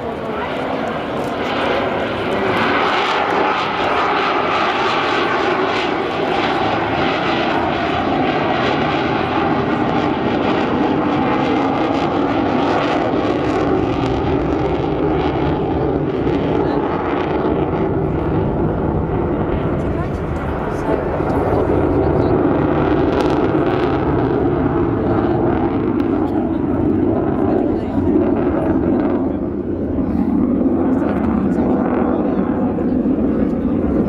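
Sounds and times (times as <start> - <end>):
fighter jet roaring past: 0.0 - 34.0.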